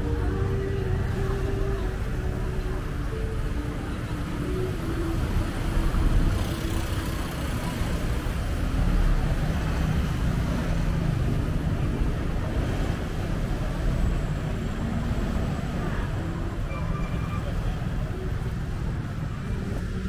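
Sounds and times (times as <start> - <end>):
road traffic: 0.0 - 20.0
vehicles passing by: 0.0 - 20.0.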